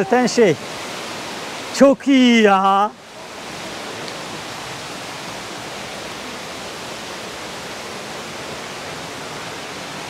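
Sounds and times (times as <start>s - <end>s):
stream flowing: 0.0s - 10.0s
waterfall rushing: 0.0s - 10.0s.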